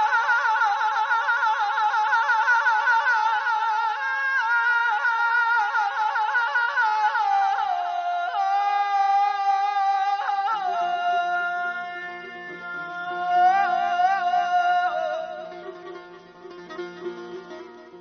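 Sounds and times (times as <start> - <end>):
man singing with trills: 0.0 - 16.2.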